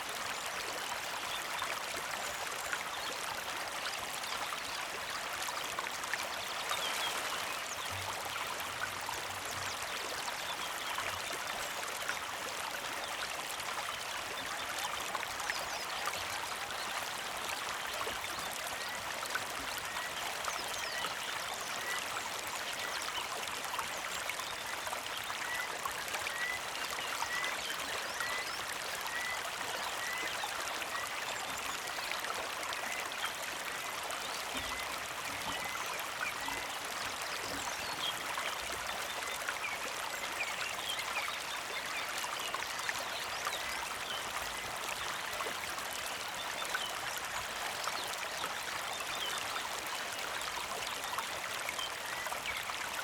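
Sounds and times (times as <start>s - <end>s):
creek flowing and trickling: 0.0s - 53.0s.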